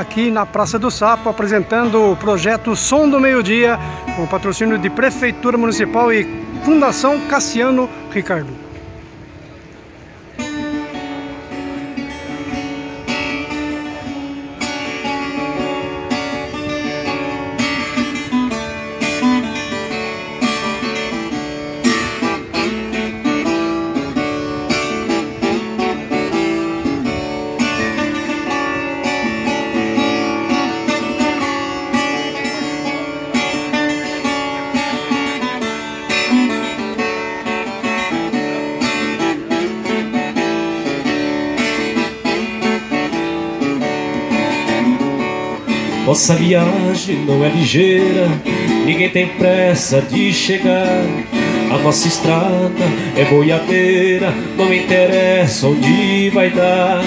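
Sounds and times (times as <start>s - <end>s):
folk guitar picked and strummed: 0.0s - 57.0s.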